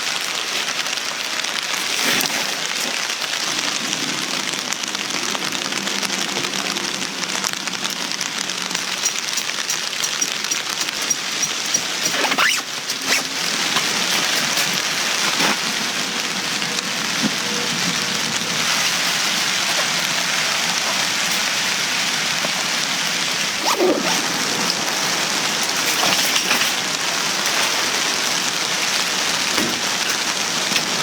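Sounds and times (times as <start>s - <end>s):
light rain falling: 0.0s - 31.0s.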